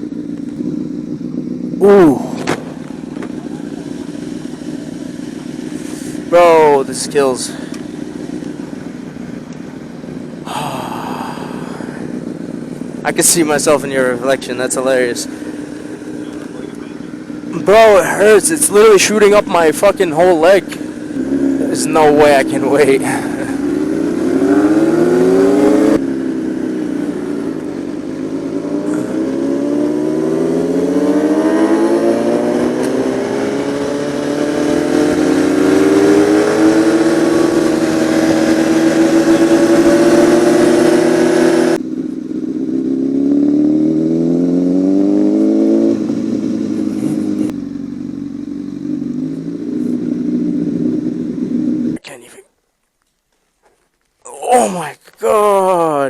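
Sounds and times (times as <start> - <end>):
sport bike engine revving: 0.0 - 52.0.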